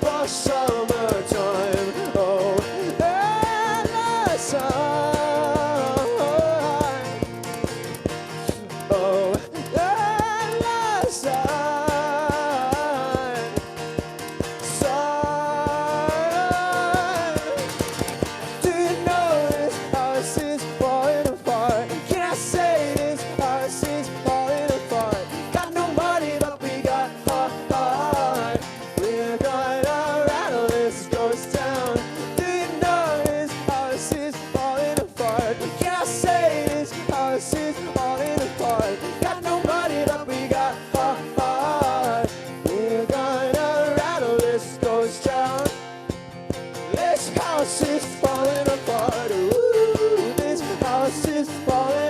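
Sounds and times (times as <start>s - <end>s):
strummed acoustic guitar: 0.0s - 52.0s.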